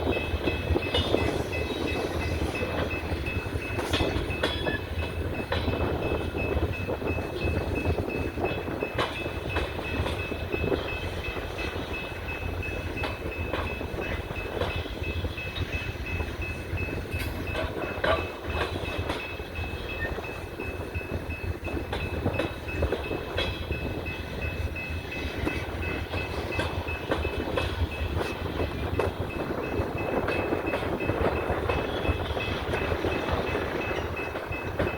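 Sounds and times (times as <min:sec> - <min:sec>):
train cars rumbling: 0:00.0 - 0:34.9
wheels clicking over rail joints: 0:00.0 - 0:34.9.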